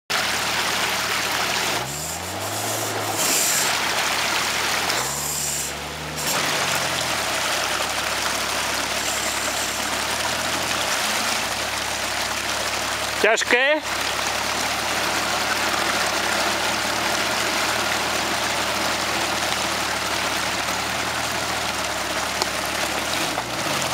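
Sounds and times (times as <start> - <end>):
diesel engine revving in mud: 0.1 - 23.9
running water hiss: 0.2 - 23.0.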